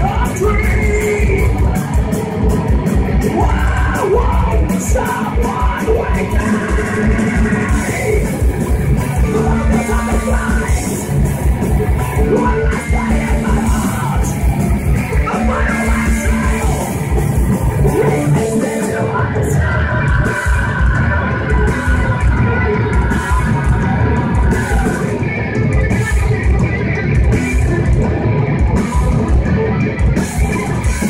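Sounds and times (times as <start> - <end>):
metal band playing live: 0.0 - 31.0.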